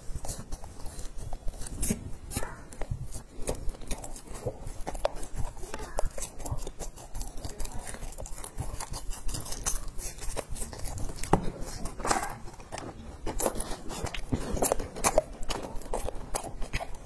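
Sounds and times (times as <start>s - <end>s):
chewing crunchy bar: 0.0s - 17.0s.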